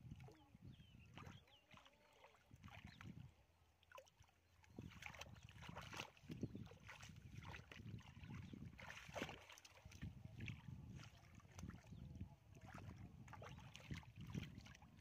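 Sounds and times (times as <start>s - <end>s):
hands sloshing through muddy water: 0.0s - 15.0s.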